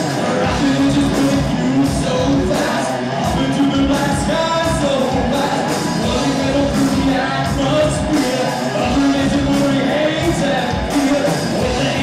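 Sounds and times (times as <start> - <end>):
bass guitar: 0.0 - 12.0
drums: 0.0 - 12.0
electric guitar: 0.0 - 12.0
person singing: 0.0 - 12.0.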